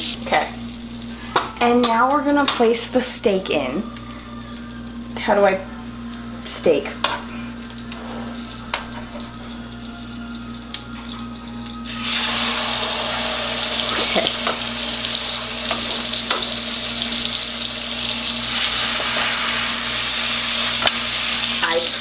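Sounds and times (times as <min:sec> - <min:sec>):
steak sizzling in a pan: 0:00.0 - 0:22.0.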